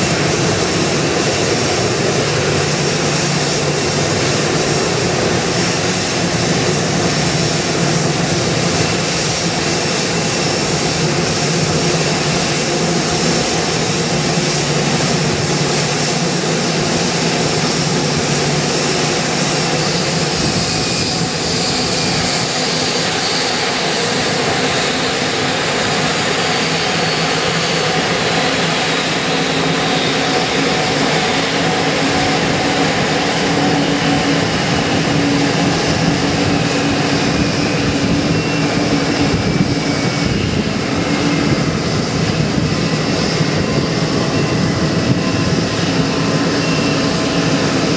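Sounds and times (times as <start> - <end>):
jet engines rumbling and whining: 0.0 - 47.9.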